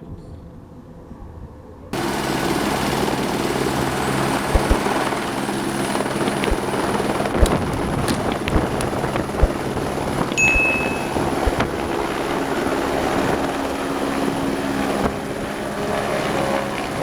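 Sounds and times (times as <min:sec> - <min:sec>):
helicopter rotor and turbine: 0:02.0 - 0:17.0.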